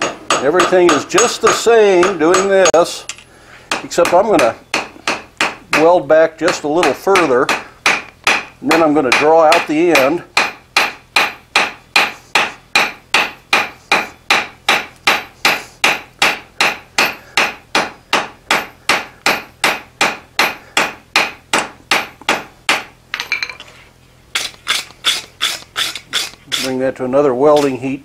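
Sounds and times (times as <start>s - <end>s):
hammer striking metal on anvil: 0.0s - 23.6s.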